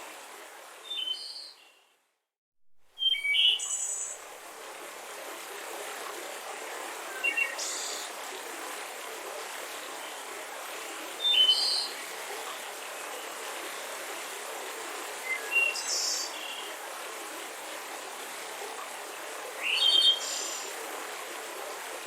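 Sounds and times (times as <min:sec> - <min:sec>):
mountain river rushing: 0:04.2 - 0:22.0.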